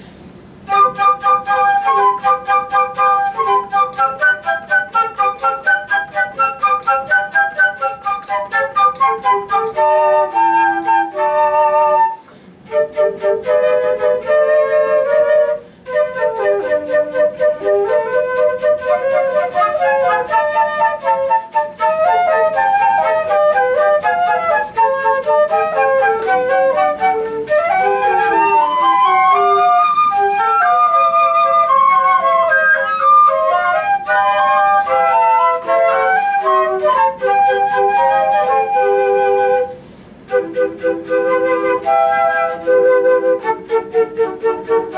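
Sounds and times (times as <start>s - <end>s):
flutes playing: 0.0s - 44.9s.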